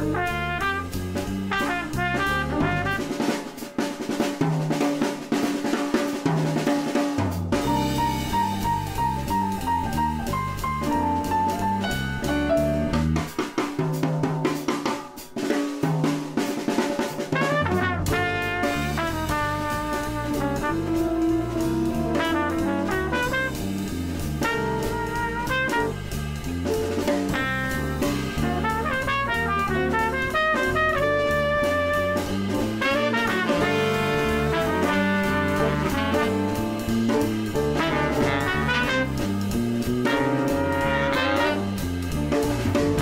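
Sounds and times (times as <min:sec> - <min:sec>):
bass line: 0:00.0 - 0:03.2, 0:07.5 - 0:13.4, 0:17.4 - 0:43.0
drum kit: 0:00.0 - 0:43.0
jazz tune with brass: 0:00.0 - 0:43.0.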